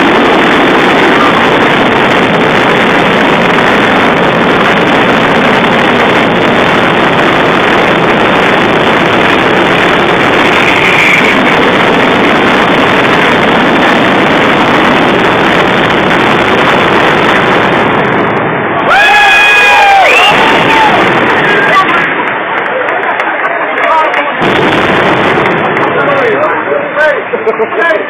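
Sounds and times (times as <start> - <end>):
firework barrage roar: 0.0 - 28.0.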